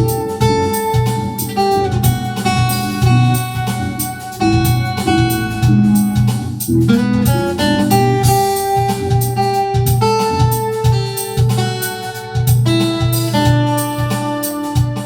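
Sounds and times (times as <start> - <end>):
instrumental soul music: 0.0 - 15.0.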